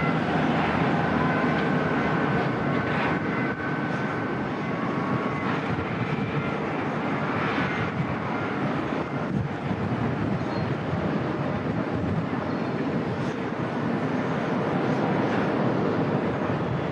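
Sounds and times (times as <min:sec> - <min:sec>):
jet engines rushing: 0:00.0 - 0:16.9.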